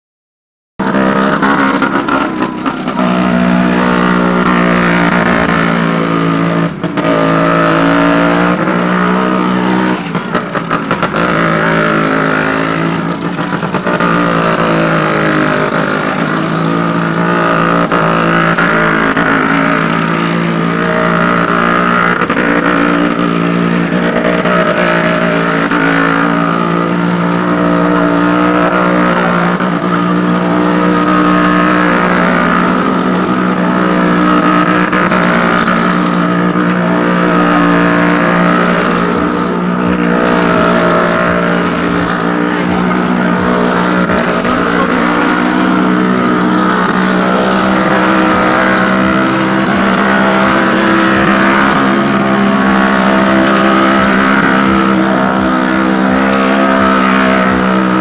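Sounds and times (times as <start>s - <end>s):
motorcycle engines circling: 0.8s - 58.0s.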